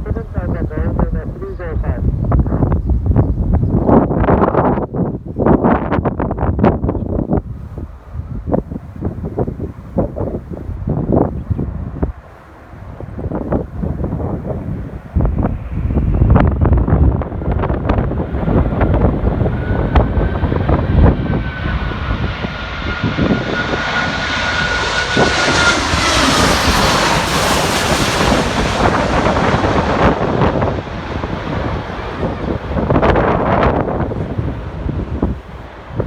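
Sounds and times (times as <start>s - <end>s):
jet airliner passing: 0.0s - 36.0s
jet engine high whine: 0.0s - 36.0s
wind buffeting microphone: 0.0s - 36.0s.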